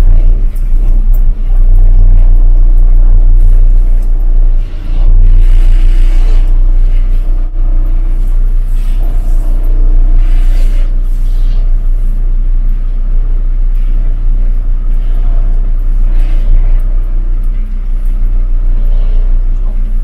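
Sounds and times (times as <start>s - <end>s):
truck diesel engine rumble: 0.0s - 20.0s.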